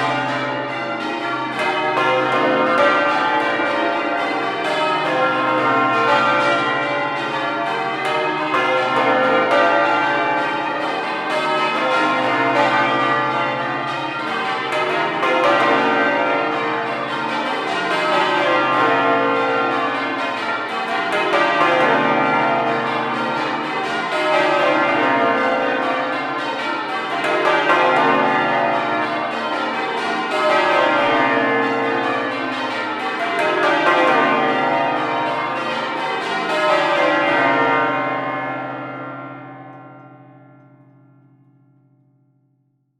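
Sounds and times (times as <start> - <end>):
church bells change ringing: 0.0 - 42.2.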